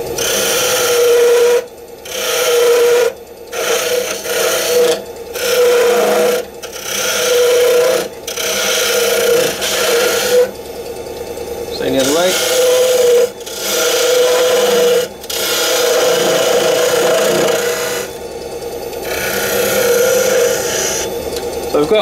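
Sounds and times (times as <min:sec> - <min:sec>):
chisel cutting wood on lathe: 0:00.0 - 0:10.6, 0:11.7 - 0:18.3, 0:19.0 - 0:22.0
shavings hissing: 0:00.2 - 0:10.5, 0:11.7 - 0:18.2, 0:19.0 - 0:22.0.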